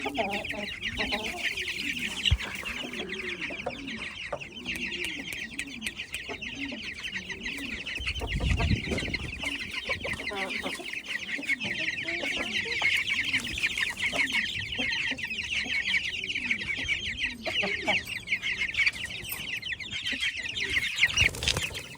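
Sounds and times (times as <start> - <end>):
chickens clucking: 0.0 - 21.9
small birds chattering: 0.0 - 21.9.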